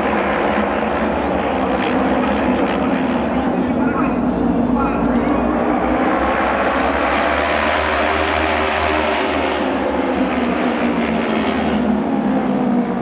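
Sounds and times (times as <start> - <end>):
racing motorcycle engines droning: 0.0 - 13.0.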